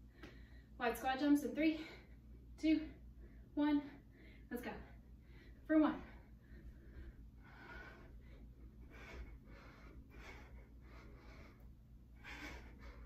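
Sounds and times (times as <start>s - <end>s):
woman breathing heavily: 0.0s - 0.8s, 1.6s - 13.0s.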